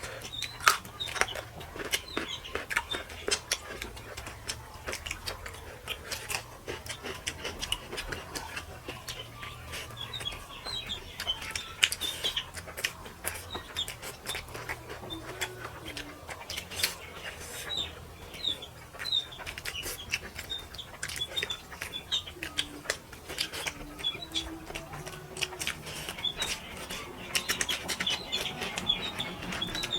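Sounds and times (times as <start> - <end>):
birds chirping: 0.0 - 29.9
wet chewing sounds: 0.0 - 29.9.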